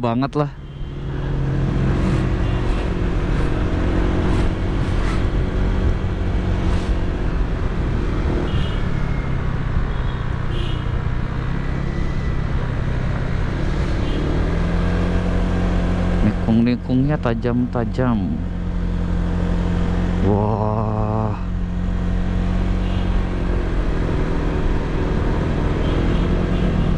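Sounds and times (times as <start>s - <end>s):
wind and road noise: 0.0s - 26.9s.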